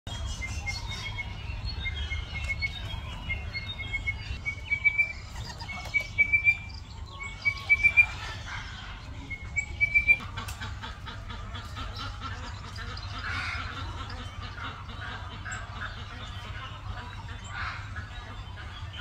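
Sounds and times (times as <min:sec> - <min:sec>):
bird chirping: 0:00.1 - 0:19.0.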